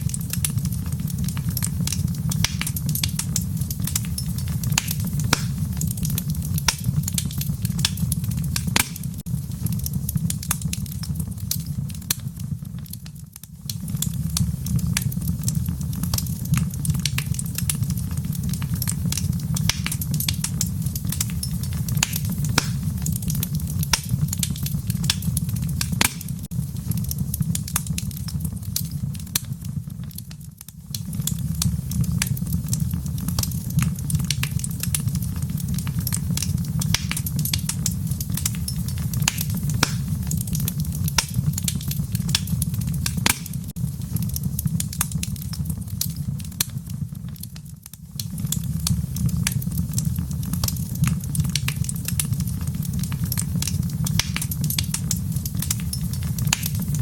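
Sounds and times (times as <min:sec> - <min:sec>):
low rumble of flame: 0:00.0 - 0:57.0
wood fire crackling: 0:00.0 - 0:57.0.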